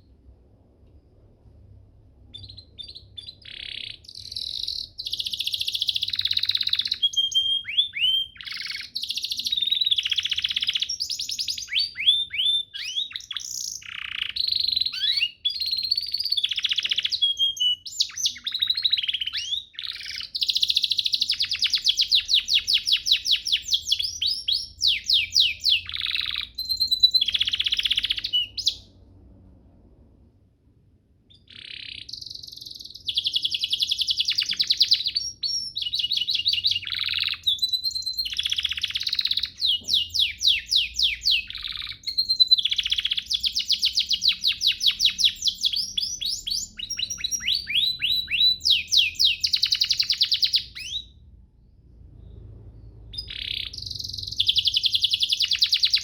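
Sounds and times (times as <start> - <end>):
canary singing trills: 2.2 - 29.1, 31.3 - 51.4, 52.0 - 56.0.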